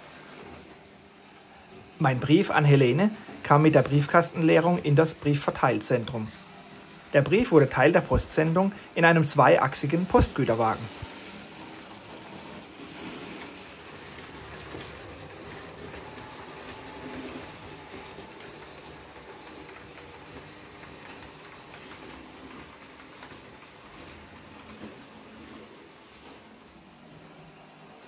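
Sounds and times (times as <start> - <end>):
model train rumbling on track: 1.9 - 28.0.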